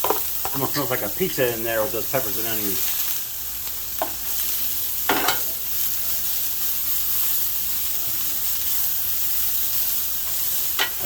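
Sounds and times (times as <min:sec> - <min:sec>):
vegetables sizzling on griddle: 0:00.0 - 0:11.0.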